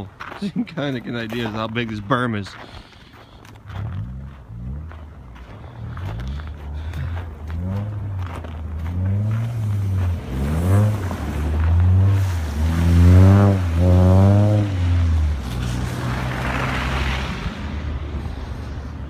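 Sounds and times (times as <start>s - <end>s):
vehicle engine revving: 3.5s - 19.0s.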